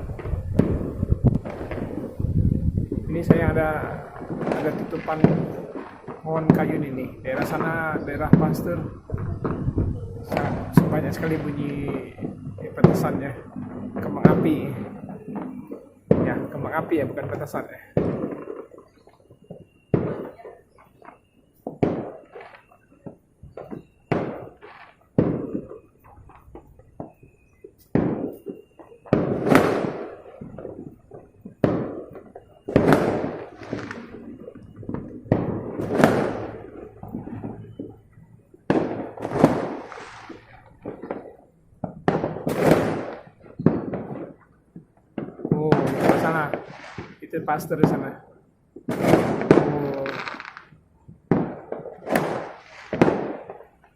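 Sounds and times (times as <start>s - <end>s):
fireworks booming: 0.0s - 53.9s.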